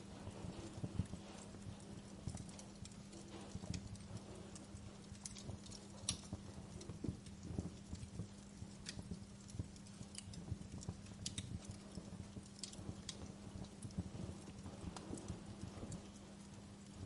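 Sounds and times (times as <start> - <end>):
faint steady hum: 0.0 - 17.0
fire crackling and popping: 0.0 - 17.0.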